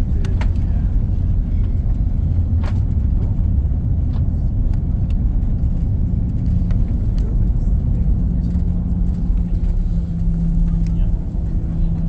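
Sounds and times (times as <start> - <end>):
aircraft engines and wheels rumbling: 0.0 - 12.0.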